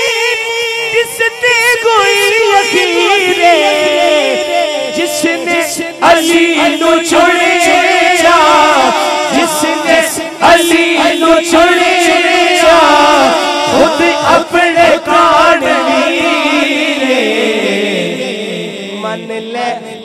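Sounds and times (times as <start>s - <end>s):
man singing melismatic line: 0.0s - 20.0s.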